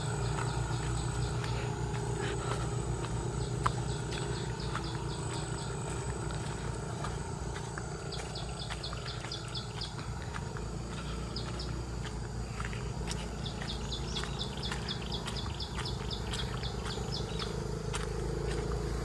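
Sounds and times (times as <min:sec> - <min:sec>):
faint high insect whine: 0:00.0 - 0:19.0
small bird chirping: 0:00.0 - 0:19.0
steady low rumble: 0:00.0 - 0:19.0.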